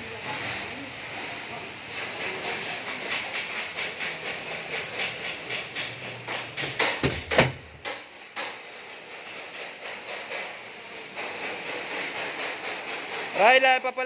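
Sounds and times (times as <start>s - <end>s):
rapid rhythmic knocking: 1.8s - 14.0s.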